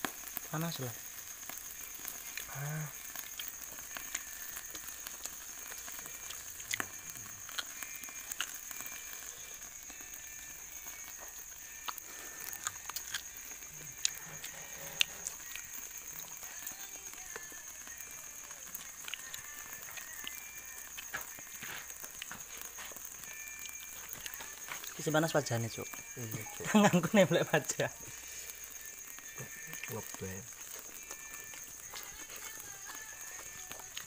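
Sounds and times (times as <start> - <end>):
fire popping: 0.0 - 34.0
wood fire crackling: 0.0 - 34.0.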